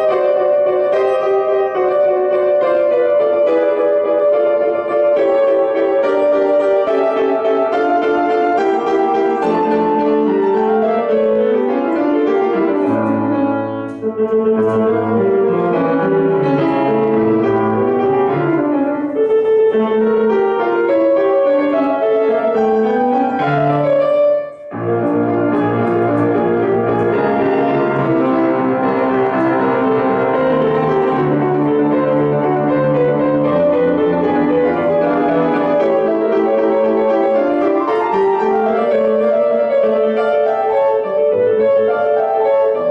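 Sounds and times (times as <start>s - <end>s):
solo piano playing: 0.0s - 42.9s.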